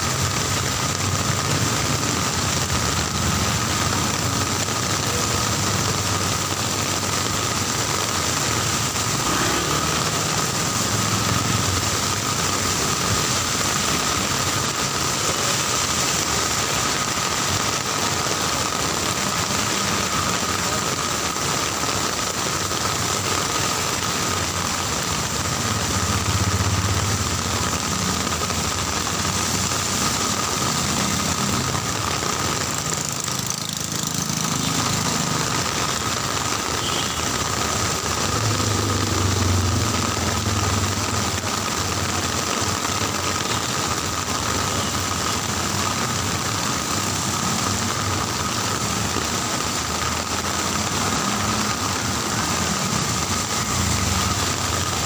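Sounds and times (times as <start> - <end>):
vehicle engines running: 0.0 - 36.6, 37.4 - 55.0
heavy rain falling: 0.0 - 55.0.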